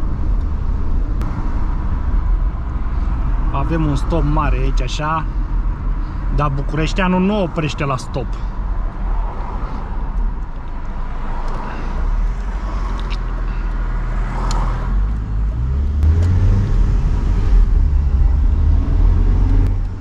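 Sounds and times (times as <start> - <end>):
car cabin engine and road noise: 0.0 - 20.0.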